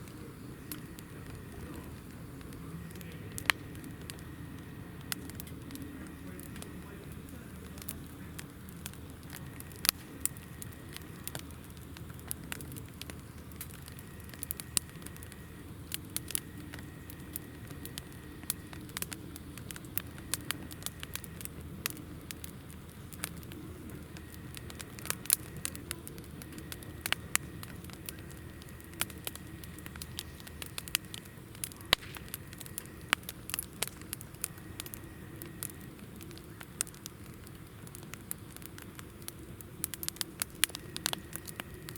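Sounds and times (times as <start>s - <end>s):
campfire crackling and popping: 0.0s - 41.9s
low rush of flame: 0.0s - 41.9s.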